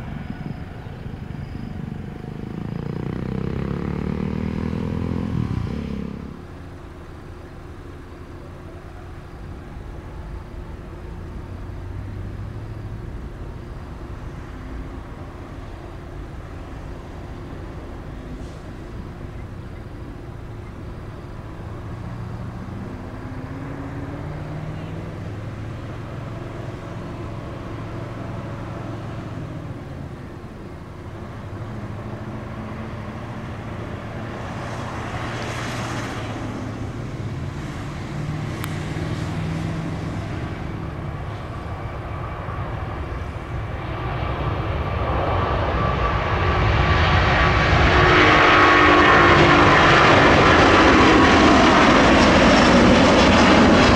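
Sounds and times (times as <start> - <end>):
jet engines rumbling: 0.0 - 3.9, 4.9 - 53.9.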